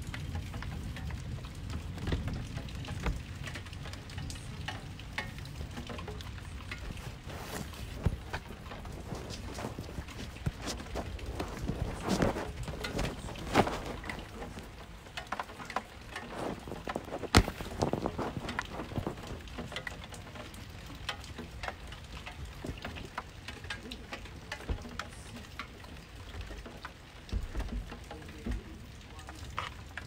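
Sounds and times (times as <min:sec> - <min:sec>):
heavy raindrops tapping: 0:00.0 - 0:30.0
rain hissing: 0:00.0 - 0:30.0.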